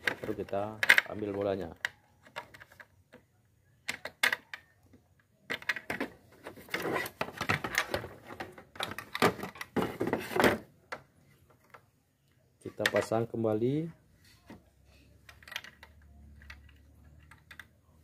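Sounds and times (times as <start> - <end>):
plastic clicks and rattling: 0.0 - 13.2, 15.2 - 18.0.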